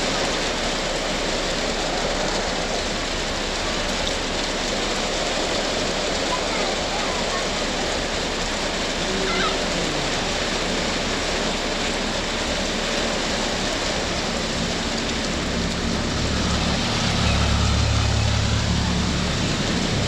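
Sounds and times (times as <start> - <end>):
heavy rain pouring: 0.0 - 20.0
passing motor vehicle hum: 0.0 - 20.0.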